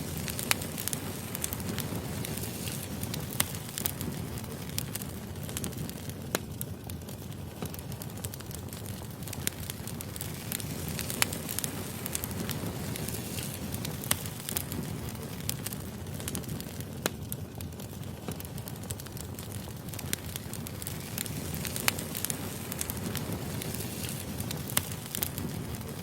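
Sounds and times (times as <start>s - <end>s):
firewood crackling and popping: 0.0s - 26.0s
flame rushing: 0.0s - 26.0s.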